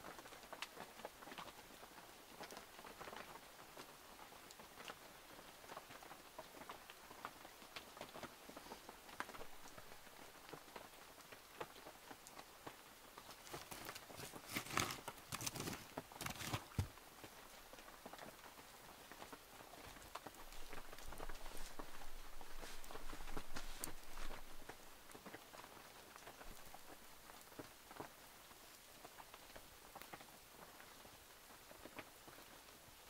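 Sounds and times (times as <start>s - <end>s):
campfire crackling and popping: 0.1s - 32.6s.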